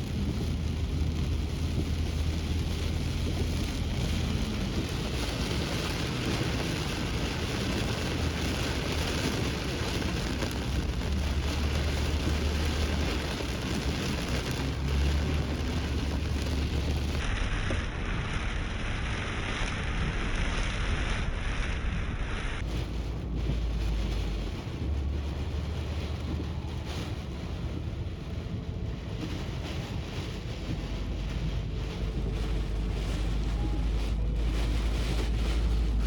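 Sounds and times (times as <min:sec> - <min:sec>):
driving rain: 0:00.0 - 0:36.0
strong wind: 0:00.0 - 0:36.0
wind buffeting microphone: 0:00.0 - 0:36.0.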